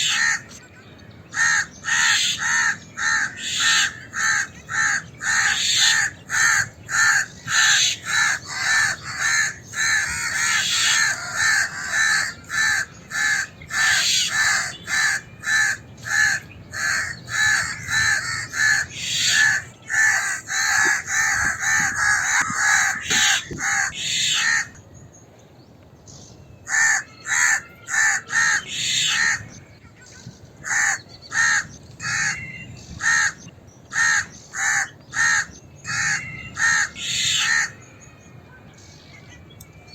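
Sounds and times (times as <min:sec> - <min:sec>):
crows cawing: 0:00.0 - 0:00.6, 0:01.3 - 0:24.8, 0:26.7 - 0:29.5, 0:30.6 - 0:32.4, 0:33.0 - 0:37.8.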